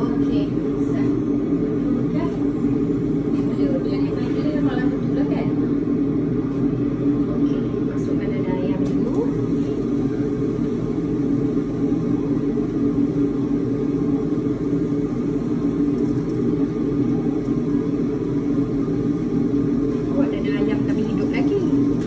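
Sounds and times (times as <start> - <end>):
extractor fan whirring: 0.0 - 22.0.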